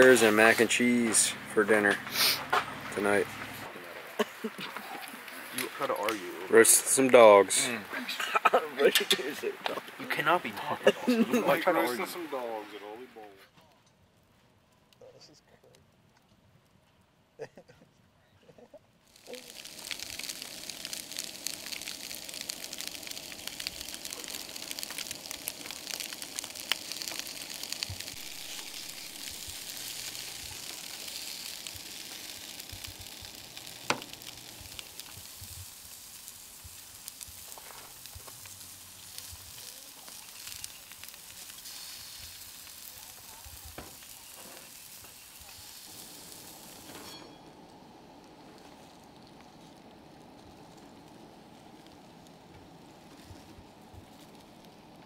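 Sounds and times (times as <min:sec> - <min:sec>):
potatoes sizzling in a skillet: 0:00.0 - 0:13.2, 0:19.1 - 0:55.0.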